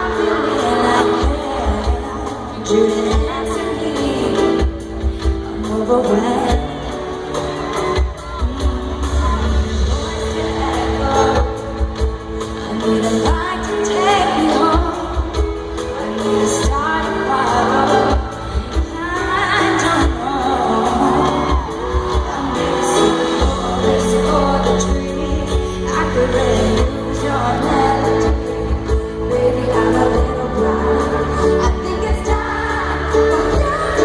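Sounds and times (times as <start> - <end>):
woman singing vocal runs: 0.0 - 34.0.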